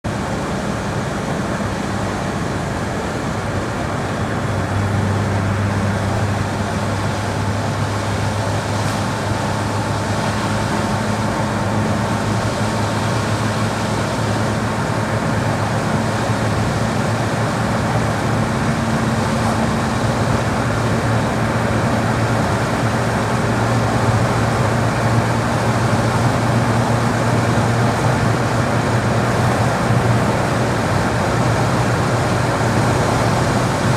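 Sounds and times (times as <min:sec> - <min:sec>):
car engine running: 0:00.0 - 0:33.9
road noise: 0:00.0 - 0:33.9.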